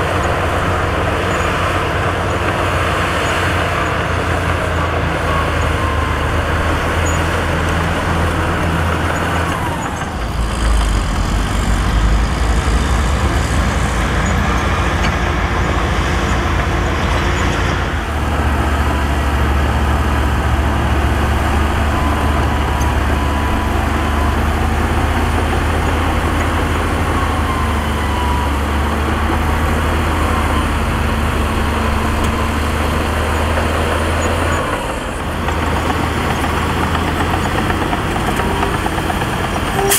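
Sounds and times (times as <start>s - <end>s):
heavy diesel engines rumbling: 0.0s - 39.9s.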